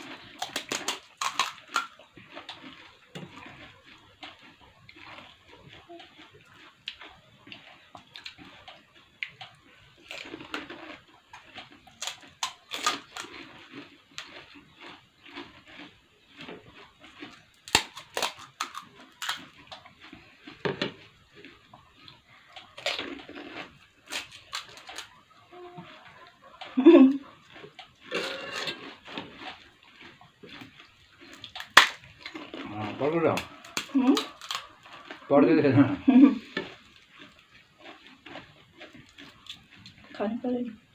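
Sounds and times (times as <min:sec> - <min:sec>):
crunching and chewing: 0:00.0 - 0:40.9.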